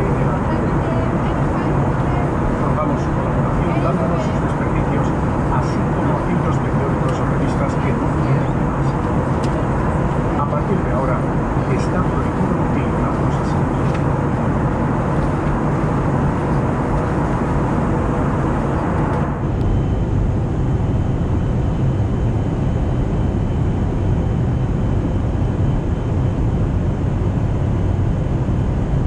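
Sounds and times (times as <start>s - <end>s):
aircraft engine drone: 0.0s - 29.0s.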